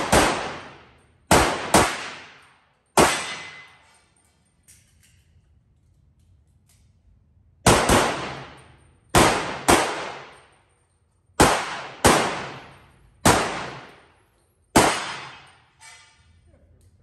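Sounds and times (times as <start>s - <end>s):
pistol shots ringing indoors: 0.0s - 17.0s.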